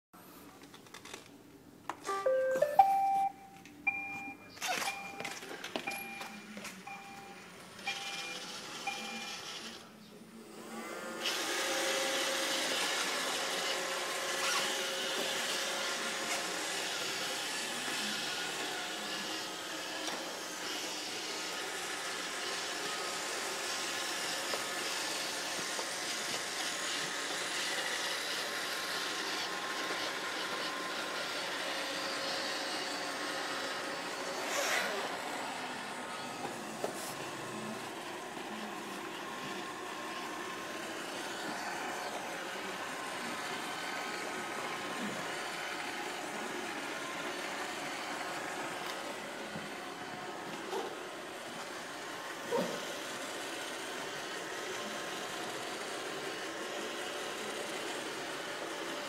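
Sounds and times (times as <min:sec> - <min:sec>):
robot vacuum whirring: 0:07.7 - 0:09.8, 0:10.5 - 0:59.0.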